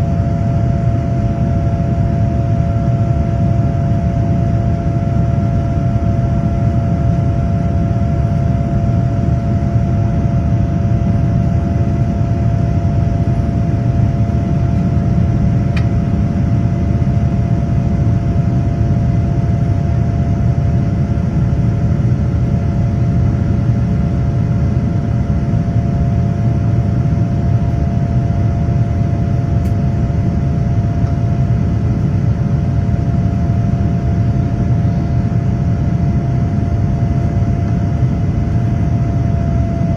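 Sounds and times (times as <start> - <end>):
constant hum: 0.0 - 39.9
jet engine cabin rumble: 0.0 - 39.9.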